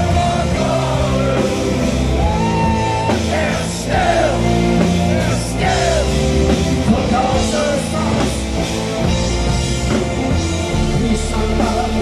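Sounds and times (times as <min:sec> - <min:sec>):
man singing lead vocal: 0:00.0 - 0:08.9, 0:10.3 - 0:12.0
live rock band playing: 0:00.0 - 0:12.0.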